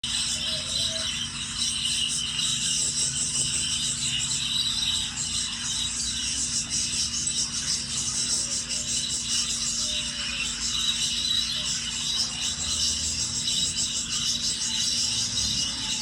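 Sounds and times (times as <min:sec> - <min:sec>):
budgerigar flock chattering: 0:00.0 - 0:16.0
steady low hum: 0:00.0 - 0:16.0.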